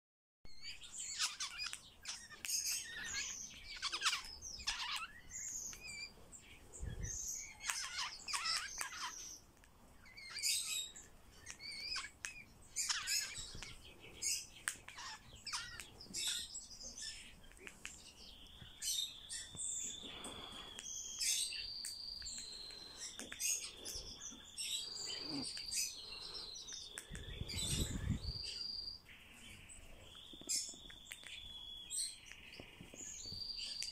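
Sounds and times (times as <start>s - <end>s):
bird calling with rapid chirps: 0.5s - 33.9s.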